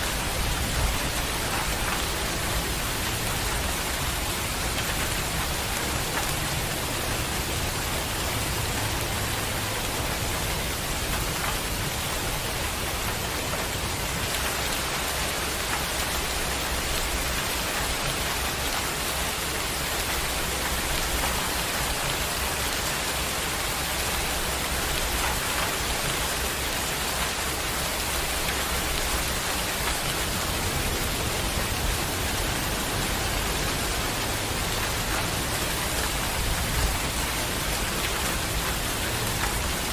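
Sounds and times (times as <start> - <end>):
heavy rain on surfaces: 0.0 - 39.9.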